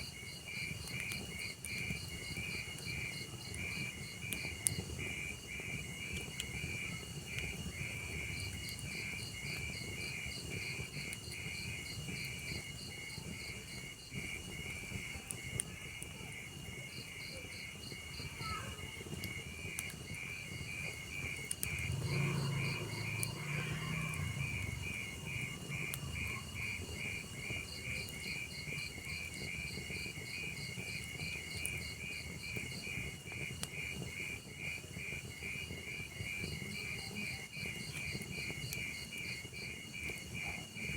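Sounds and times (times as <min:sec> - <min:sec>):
crackling wood fire: 0:00.0 - 0:40.9
crickets chirping: 0:00.0 - 0:40.9.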